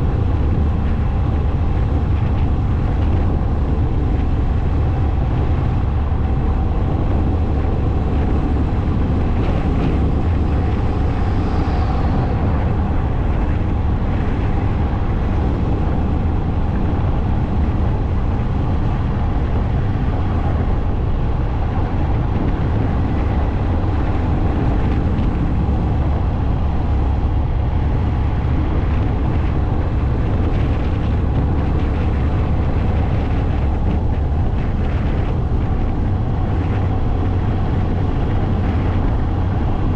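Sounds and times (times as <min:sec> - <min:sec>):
motorcycle rumble: 0:00.0 - 0:39.9
wind noise on microphone: 0:00.0 - 0:39.9.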